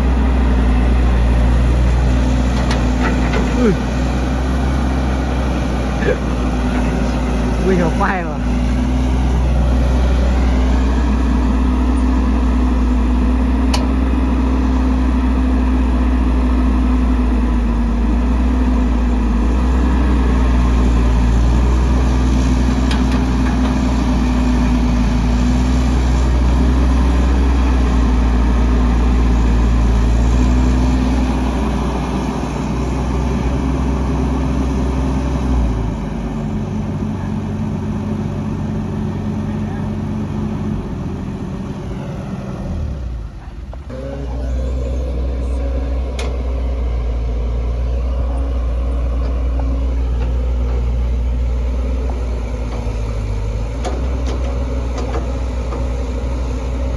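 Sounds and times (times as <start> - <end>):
heavy machinery diesel engine rumbling: 0.0 - 56.9.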